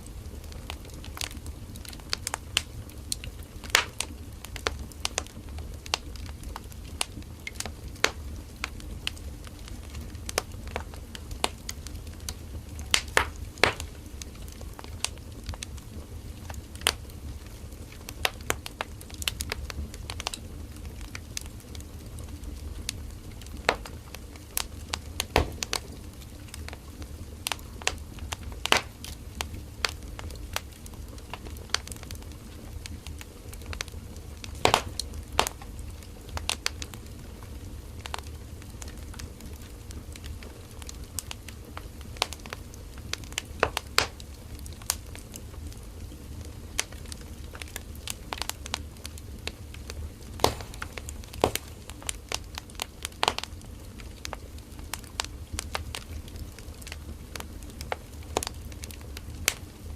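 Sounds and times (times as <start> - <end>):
burning wood crackling and popping: 0.0 - 59.9
low rumble of flames: 0.0 - 59.9.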